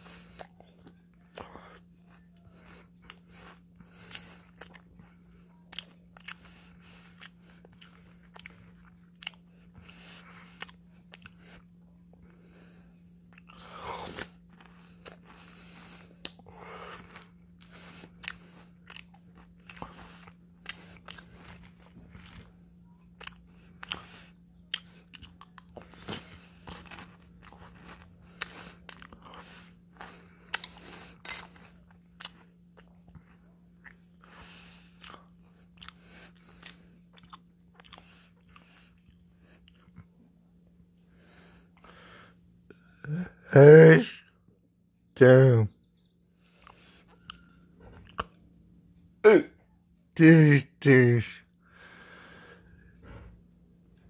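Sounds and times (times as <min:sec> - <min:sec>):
person chewing and crunching cereal: 0:00.0 - 0:43.2, 0:45.9 - 0:49.1
steady low hum: 0:00.0 - 0:54.0.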